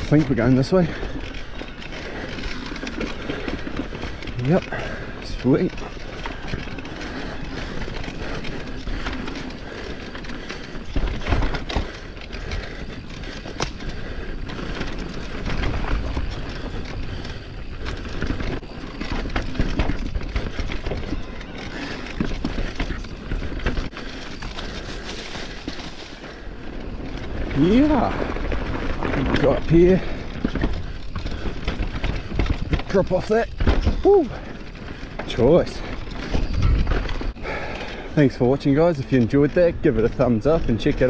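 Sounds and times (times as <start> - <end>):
bike rattling over bumps: 0.0 - 41.0
tyres rolling on dirt: 0.0 - 41.0.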